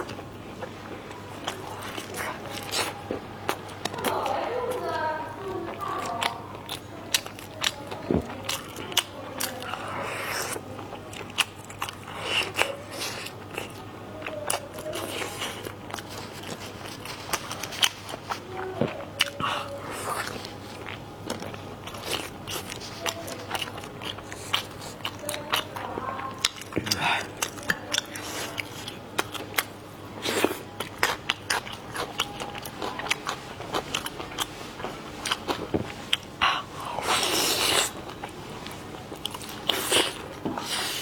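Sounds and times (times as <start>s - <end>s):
crunchy chewing and biting: 0.0s - 5.0s, 5.7s - 41.0s.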